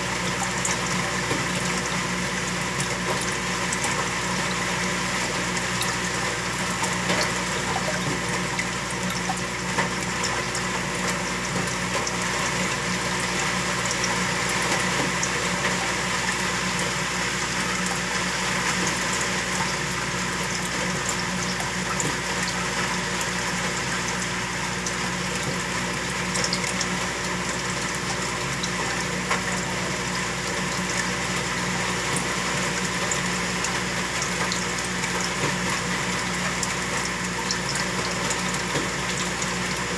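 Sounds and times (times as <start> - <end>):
aquarium pump humming: 0.0 - 39.9.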